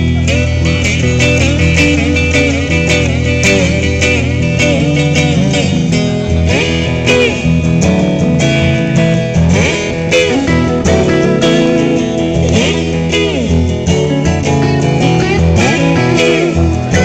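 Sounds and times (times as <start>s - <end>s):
acoustic guitar backing: 0.0s - 17.0s
electric guitar solo: 0.0s - 17.0s.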